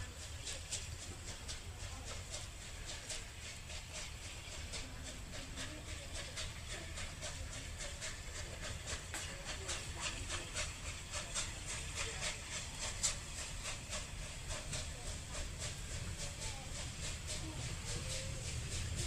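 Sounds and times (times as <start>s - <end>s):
steam hissing: 0.0s - 19.0s
steam locomotive chuffing: 0.0s - 19.0s.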